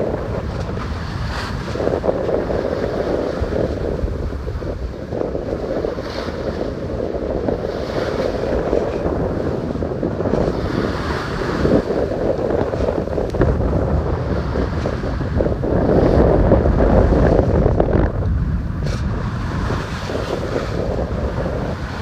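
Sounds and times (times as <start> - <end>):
water rushing along boat hull: 0.0 - 22.0
wind buffeting microphone: 0.0 - 22.0.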